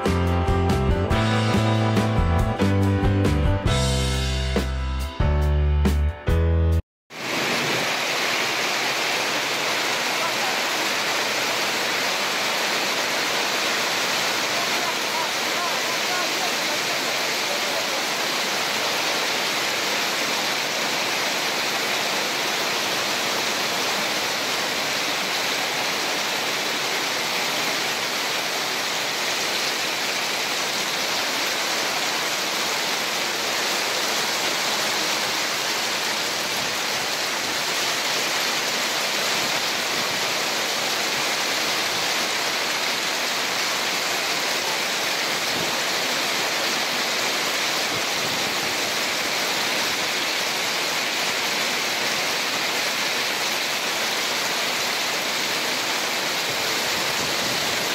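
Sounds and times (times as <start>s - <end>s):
heavy rain on plastic roof: 7.1s - 57.9s
water streaming off roof: 7.1s - 57.9s.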